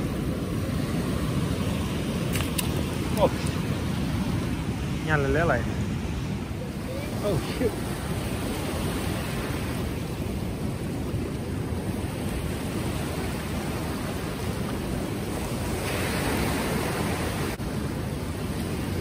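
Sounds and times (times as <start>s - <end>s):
river water lapping on shore: 0.0s - 19.0s.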